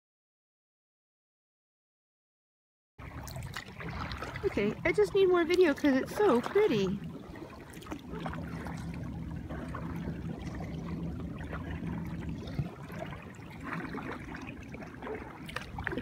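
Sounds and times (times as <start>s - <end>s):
water lapping and trickling: 3.0s - 16.0s
faint low hum: 3.1s - 16.0s.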